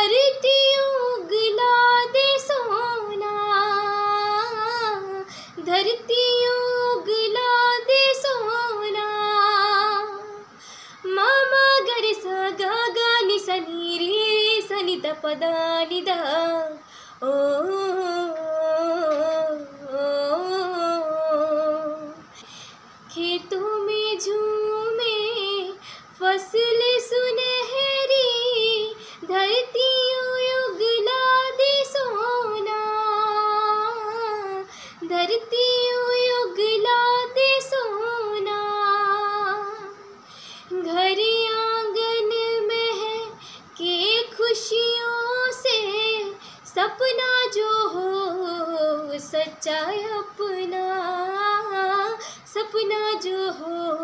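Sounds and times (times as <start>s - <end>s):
girl singing unaccompanied: 0.0s - 54.0s.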